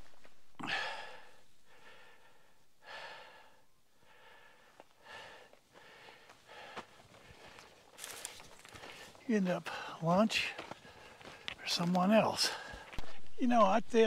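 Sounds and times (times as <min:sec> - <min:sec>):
man breathing heavily: 0:00.1 - 0:11.7, 0:12.3 - 0:13.4.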